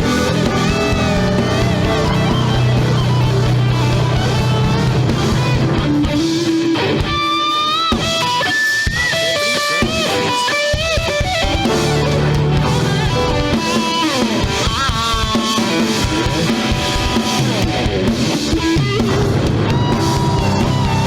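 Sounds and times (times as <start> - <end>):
drums and bass: 0.0 - 21.0
electric guitar solo: 0.0 - 21.0.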